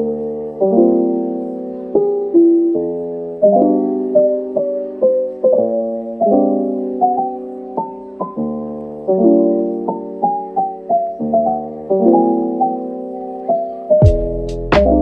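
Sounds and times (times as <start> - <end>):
solo piano slow chords: 0.0 - 15.0.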